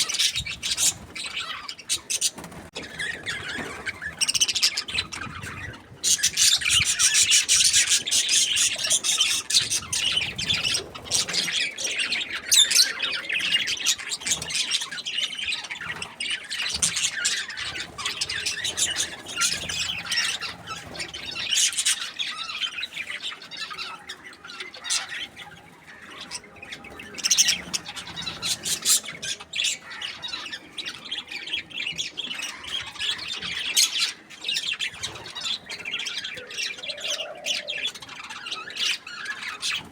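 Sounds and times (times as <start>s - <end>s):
budgerigar chirping and chattering: 0.0s - 39.9s.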